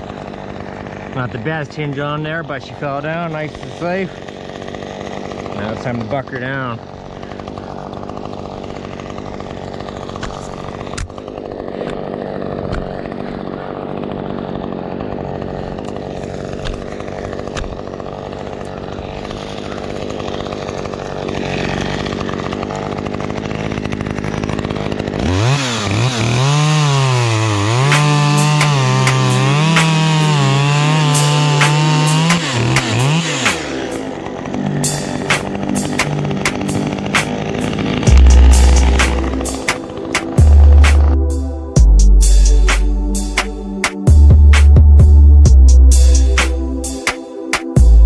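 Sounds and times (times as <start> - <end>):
chainsaw cutting wood: 0.0 - 48.0.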